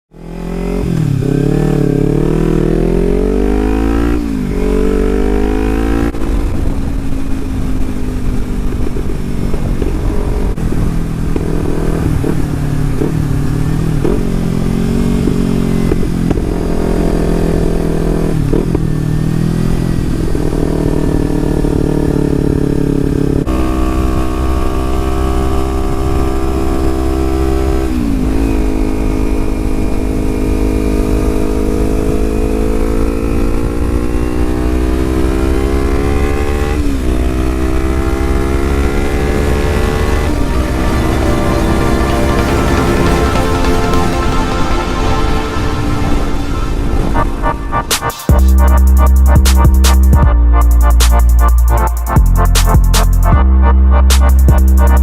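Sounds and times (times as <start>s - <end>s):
motorcycle engine revving: 0.1s - 53.5s.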